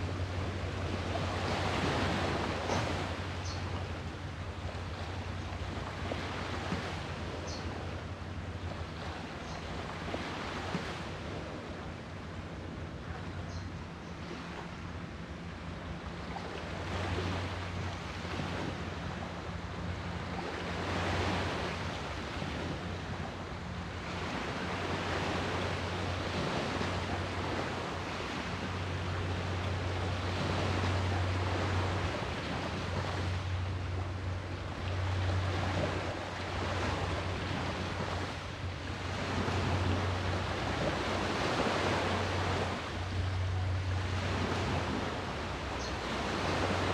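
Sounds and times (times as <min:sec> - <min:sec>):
sea waves rushing: 0:00.0 - 0:46.9
steady low hum: 0:00.0 - 0:46.9.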